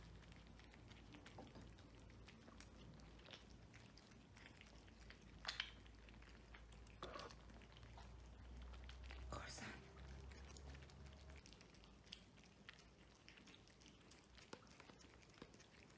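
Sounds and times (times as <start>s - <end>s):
cats chewing and licking: 0.0s - 15.9s.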